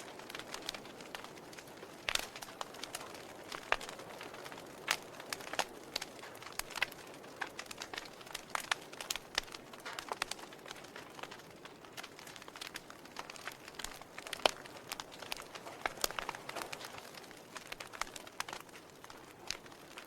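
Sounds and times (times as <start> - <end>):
soft fire hiss: 0.0 - 20.0
wood fire crackling and popping: 0.0 - 20.0.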